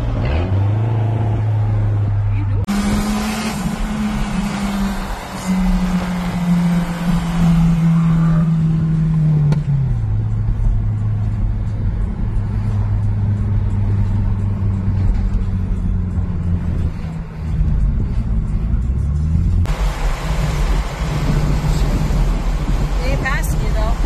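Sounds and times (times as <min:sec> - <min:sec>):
car engine drone: 0:00.0 - 0:24.0.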